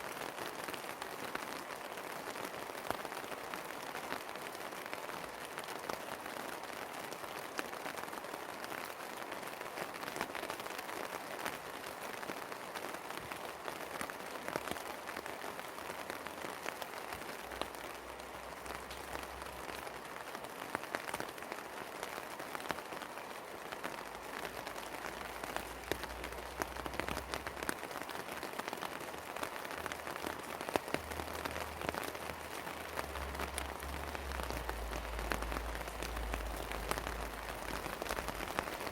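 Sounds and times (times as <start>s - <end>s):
rain hiss: 0.0s - 38.9s
raindrops ticking close by: 0.0s - 38.9s.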